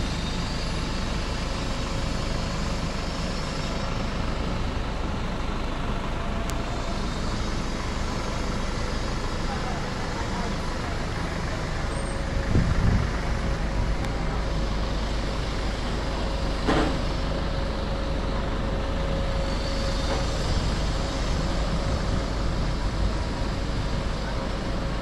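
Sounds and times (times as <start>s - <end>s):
passing vehicles rumbling: 0.0s - 25.0s.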